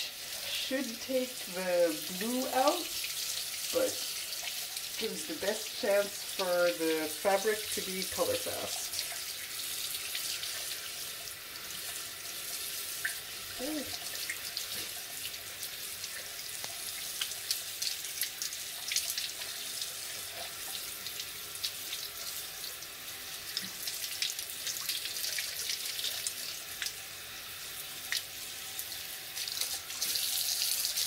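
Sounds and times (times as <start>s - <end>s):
splashes and drips: 0.0s - 27.0s, 28.0s - 31.0s
water running from faucet: 0.0s - 31.0s.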